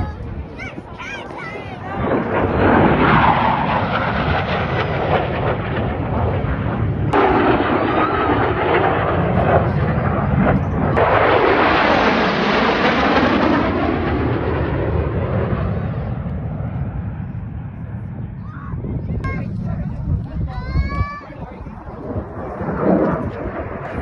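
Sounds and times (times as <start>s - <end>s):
fighter jet roaring overhead: 0.0s - 20.6s, 21.2s - 24.0s.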